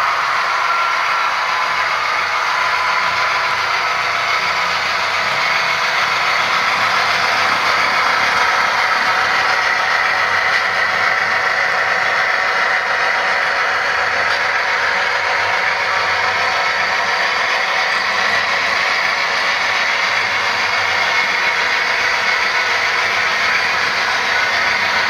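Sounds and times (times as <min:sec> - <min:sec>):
model train running: 0:00.0 - 0:25.0.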